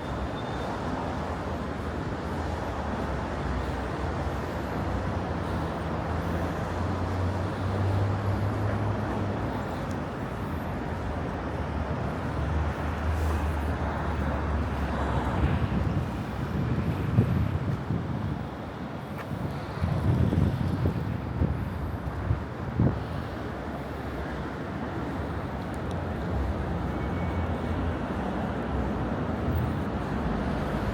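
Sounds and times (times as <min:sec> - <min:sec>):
road noise: 0:00.0 - 0:30.9.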